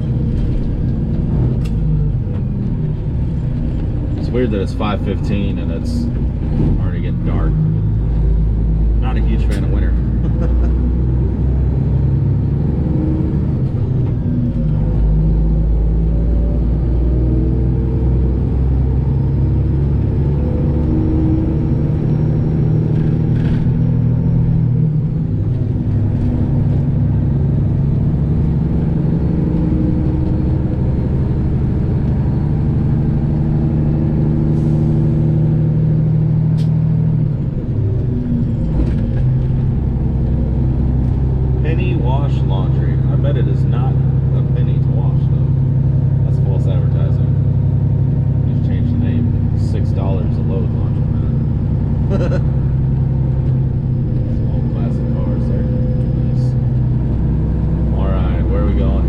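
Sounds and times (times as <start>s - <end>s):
truck engine drone from cab: 0.0s - 59.0s.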